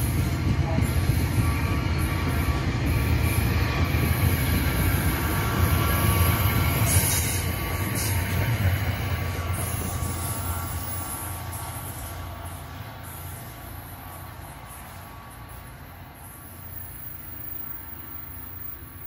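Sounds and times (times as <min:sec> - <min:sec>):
commuter train rumbling past: 0:00.0 - 0:19.0.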